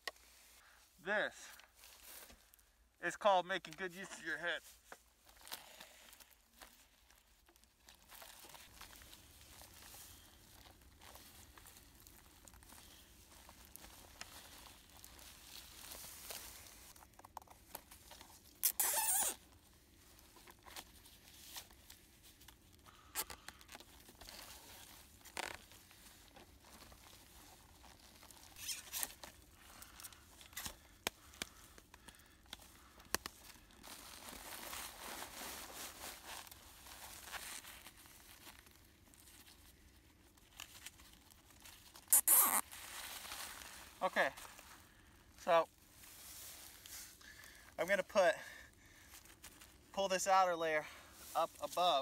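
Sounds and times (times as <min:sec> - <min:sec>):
crinkling foil duct: 0:00.6 - 0:50.0.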